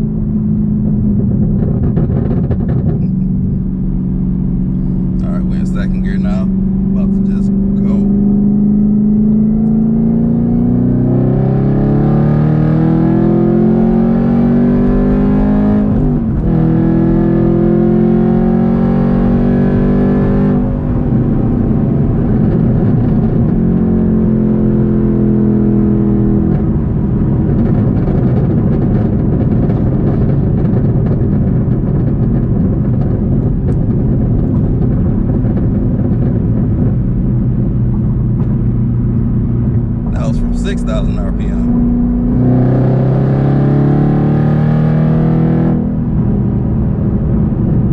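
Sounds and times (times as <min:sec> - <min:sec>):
road noise: 0:00.0 - 0:47.9
car engine revving: 0:00.8 - 0:47.9.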